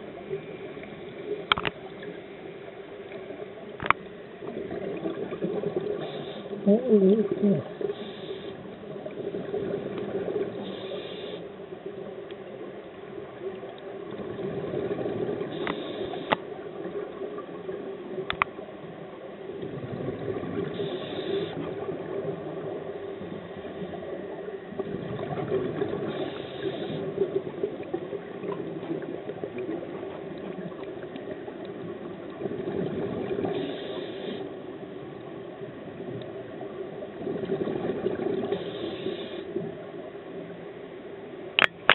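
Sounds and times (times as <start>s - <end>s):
exhaled bubbles gurgling underwater: 0.0s - 40.8s.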